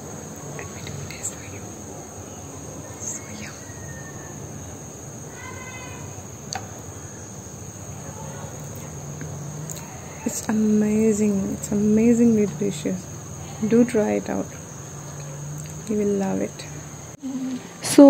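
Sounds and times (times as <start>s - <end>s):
faint outdoor background hum: 0.0s - 18.0s
insects chirring: 0.0s - 18.0s.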